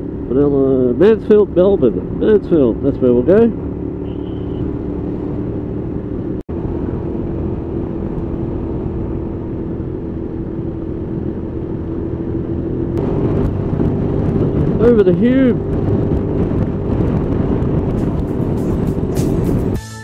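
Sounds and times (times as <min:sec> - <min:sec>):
motorcycle engine cruising: 0:00.0 - 0:19.8
road and wind rumble: 0:00.0 - 0:19.8.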